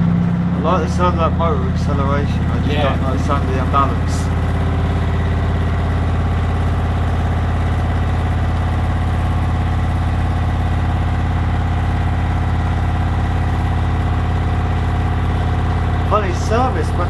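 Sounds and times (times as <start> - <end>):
washing machine motor hum: 0.7 - 17.0.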